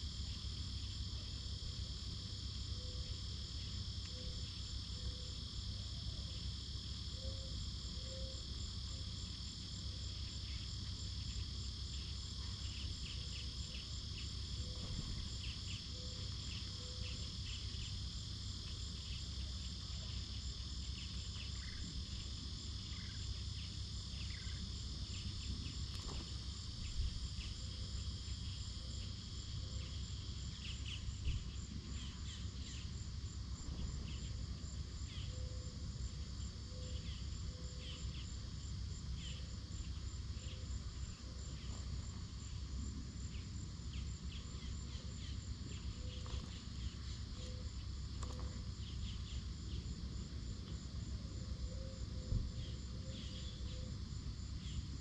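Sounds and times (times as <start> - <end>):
cricket-like insect trill: 0.0 - 55.0.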